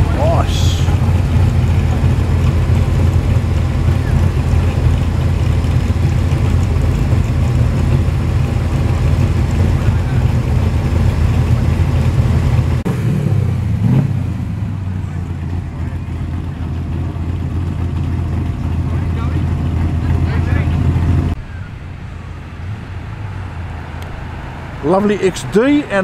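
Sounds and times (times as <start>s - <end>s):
car engines idling deep rumble: 0.0s - 26.0s.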